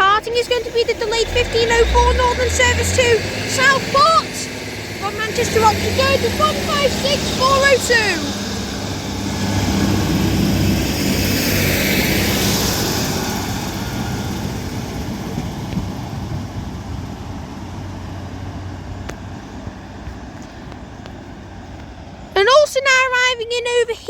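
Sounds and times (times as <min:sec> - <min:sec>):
diesel train engines pulling away: 0:00.0 - 0:24.0.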